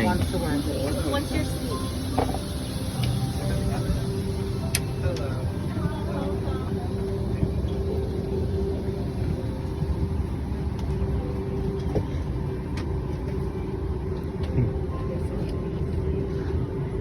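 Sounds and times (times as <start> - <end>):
cabin air-conditioning hum: 0.0 - 17.0
low rumble: 0.0 - 17.0.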